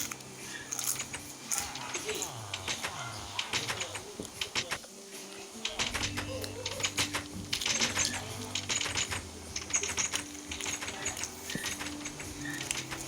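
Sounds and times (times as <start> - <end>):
rapid clicking and tapping: 0.0 - 4.9, 5.6 - 13.0.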